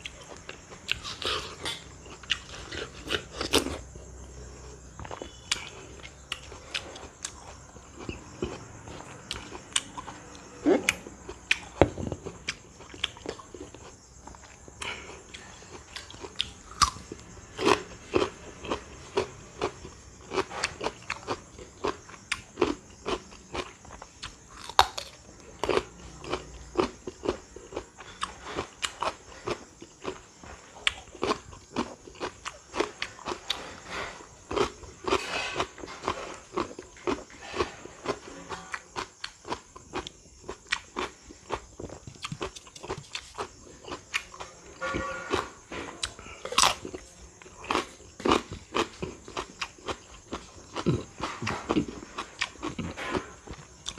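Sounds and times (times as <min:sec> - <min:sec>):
crunching raw fruit: 0:00.0 - 0:53.9.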